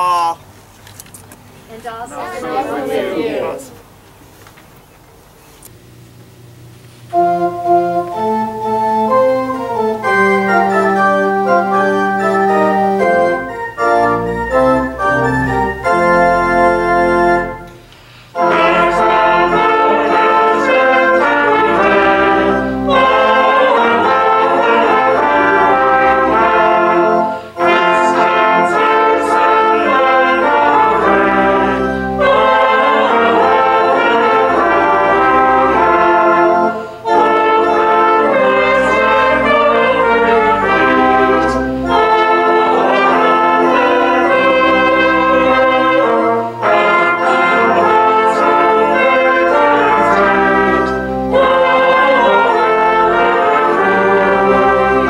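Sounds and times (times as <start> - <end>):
brass trio playing: 1.7 - 3.8, 7.0 - 55.0.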